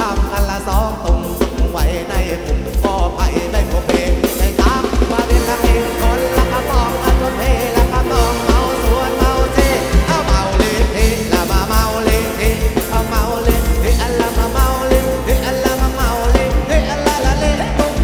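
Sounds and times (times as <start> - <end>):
live band playing dance song: 0.0 - 18.0
man singing: 0.0 - 18.0.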